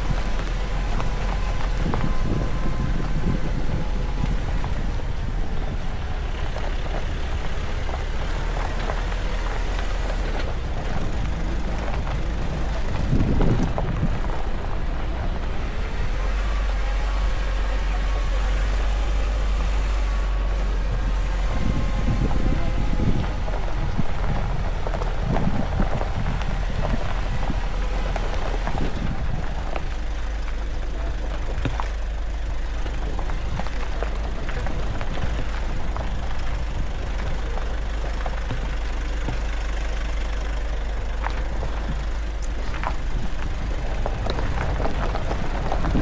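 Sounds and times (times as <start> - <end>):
pickup engine and road rumble: 0.0 - 46.0.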